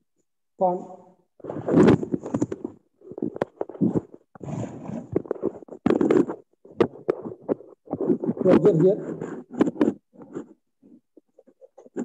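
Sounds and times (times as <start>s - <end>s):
phone handling scrapes and taps: 1.4s - 12.0s.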